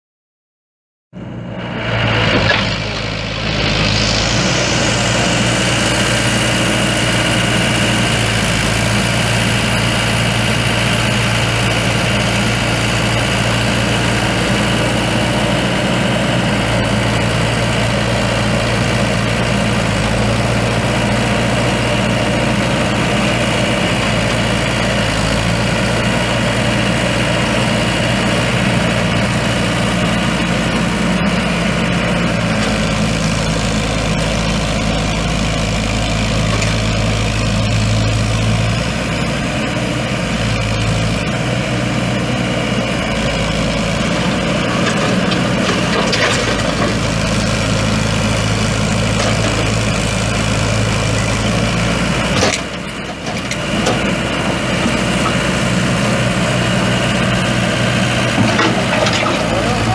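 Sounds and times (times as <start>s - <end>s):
diesel engine idling: 1.2s - 59.9s
high turbo whine: 1.2s - 59.9s.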